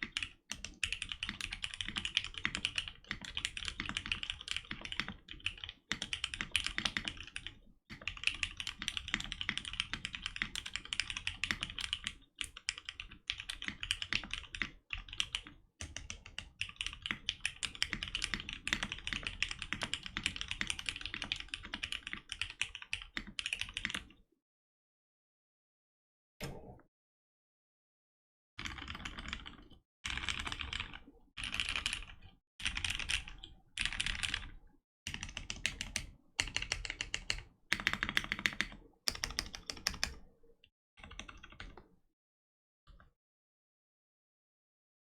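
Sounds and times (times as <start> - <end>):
fast mechanical keyboard typing: 0.0 - 24.1, 28.6 - 40.3, 41.0 - 41.8.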